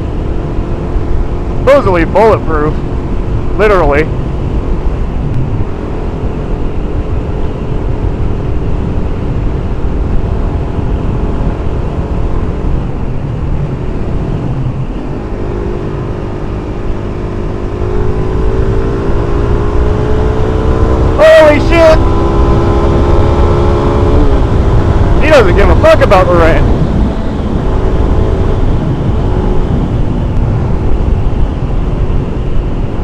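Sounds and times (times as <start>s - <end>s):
motorcycle engine droning: 0.0s - 33.0s
wind buffeting microphone: 0.0s - 33.0s.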